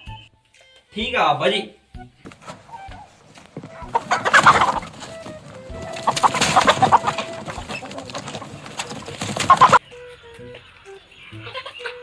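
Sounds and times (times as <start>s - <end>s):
background music: 0.0s - 12.0s
chickens clucking: 2.3s - 12.0s.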